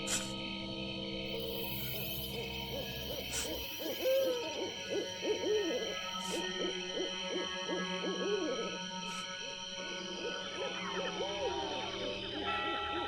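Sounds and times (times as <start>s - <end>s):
steady background drone: 0.0s - 13.0s
owls hooting: 2.0s - 13.0s.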